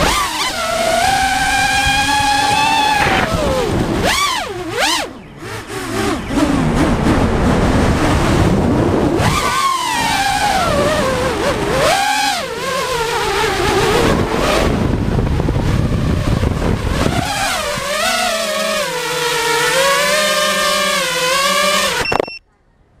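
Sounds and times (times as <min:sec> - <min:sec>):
rushing wind: 0:00.0 - 0:21.9
drone propellers whining: 0:00.0 - 0:22.4.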